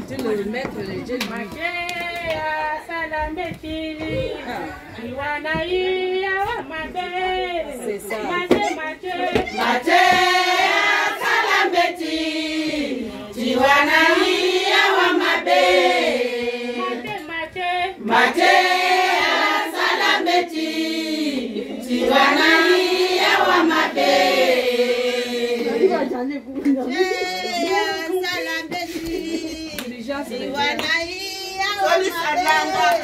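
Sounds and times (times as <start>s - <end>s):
women singing together: 0.0s - 33.0s.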